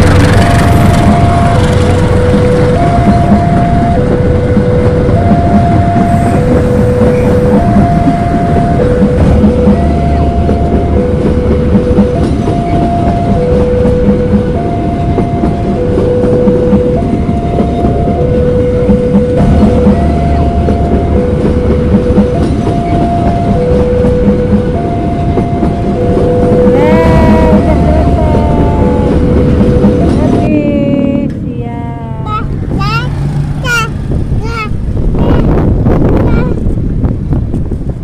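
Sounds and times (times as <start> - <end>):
level-crossing warning alarm: 0.0 - 30.5
train wheels clacking on rails: 0.0 - 30.5.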